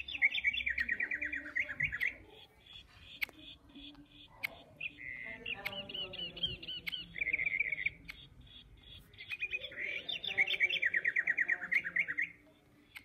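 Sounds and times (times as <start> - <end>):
electronic toy bird chirping: 0.0 - 13.0.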